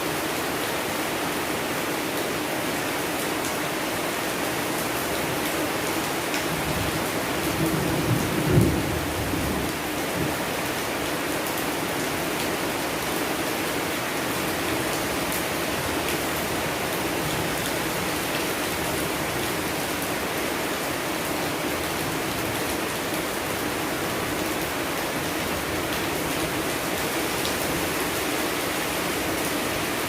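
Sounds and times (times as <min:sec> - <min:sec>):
steady rain pattering: 0:00.0 - 0:30.0.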